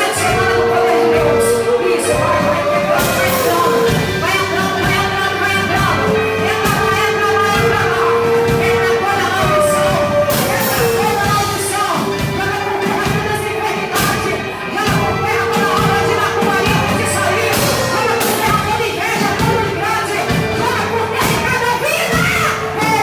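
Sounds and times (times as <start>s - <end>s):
person singing: 0.0s - 23.0s
steady drum beat: 0.0s - 23.0s
worship band playing: 0.0s - 23.0s.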